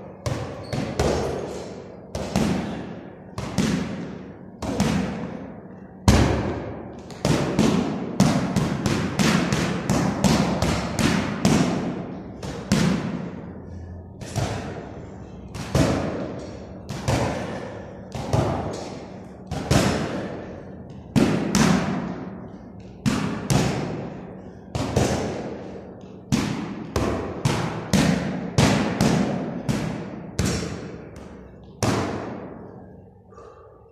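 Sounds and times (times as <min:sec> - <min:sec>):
punches thudding on punching bag: 0:02.1 - 0:05.5, 0:06.1 - 0:13.4, 0:14.2 - 0:14.9, 0:15.5 - 0:20.5, 0:21.1 - 0:22.3, 0:23.0 - 0:32.6.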